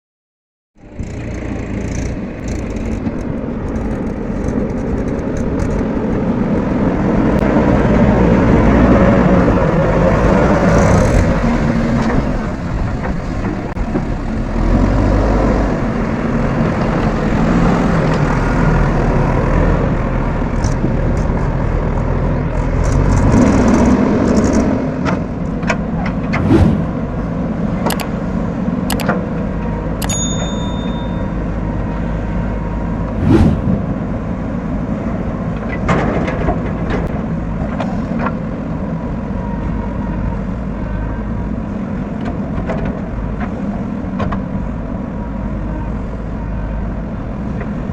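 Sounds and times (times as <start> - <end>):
diesel engine running: 0.8 - 47.9.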